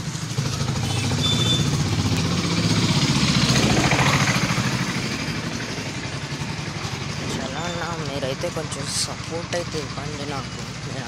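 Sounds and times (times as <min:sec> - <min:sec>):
small vehicle engine passing: 0:00.0 - 0:11.0.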